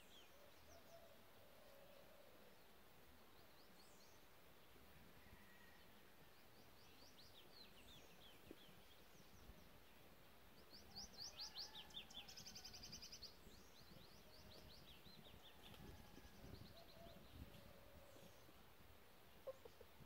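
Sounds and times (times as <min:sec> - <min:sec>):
small songbirds singing: 0:00.0 - 0:20.0.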